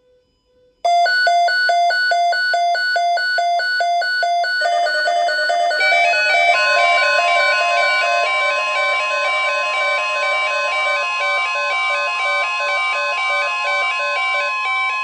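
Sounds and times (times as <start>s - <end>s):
beeping changing pitch: 0.9s - 15.0s
pulsed electronic beeping: 0.9s - 15.0s.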